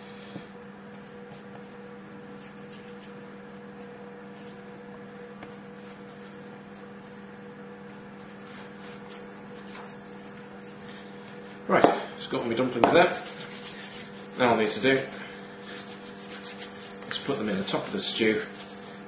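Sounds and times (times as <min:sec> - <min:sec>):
steady low hum: 0:00.0 - 0:19.0
dough rubbing between palms: 0:00.7 - 0:11.6, 0:13.0 - 0:19.0.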